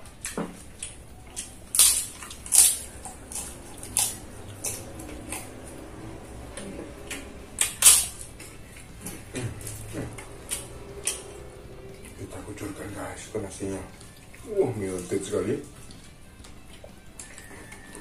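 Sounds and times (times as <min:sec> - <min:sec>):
man chewing crunchy food: 0:00.0 - 0:18.0.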